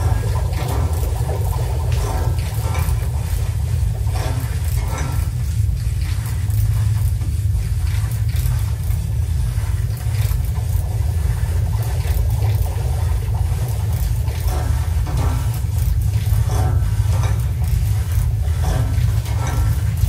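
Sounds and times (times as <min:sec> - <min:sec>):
low rumbling drone: 0:00.0 - 0:20.0.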